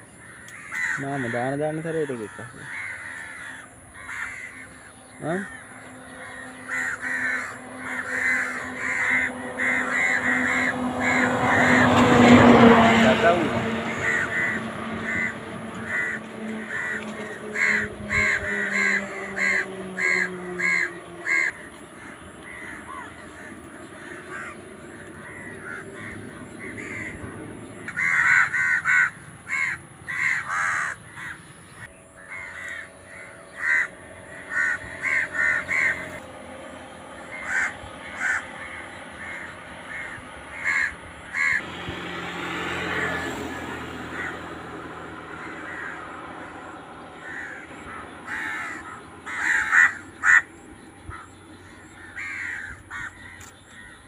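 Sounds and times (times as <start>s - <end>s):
crows cawing: 0.0s - 54.0s.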